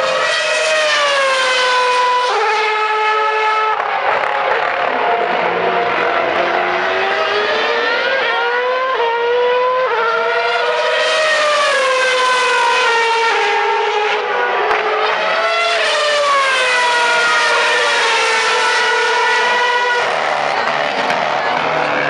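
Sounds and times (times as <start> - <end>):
racing car engines at high revs: 0.0 - 22.0.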